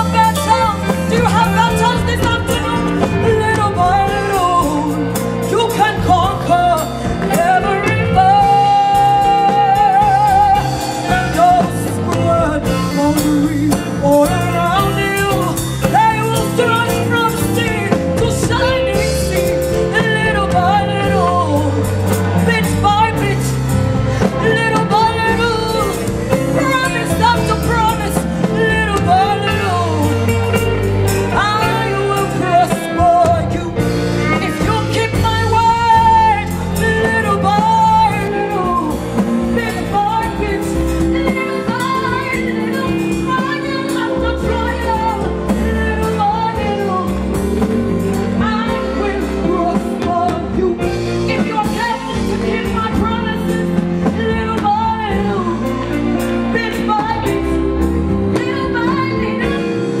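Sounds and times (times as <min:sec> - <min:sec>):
instrumental accompaniment: 0:00.0 - 1:00.0
woman singing into microphone: 0:00.0 - 1:00.0.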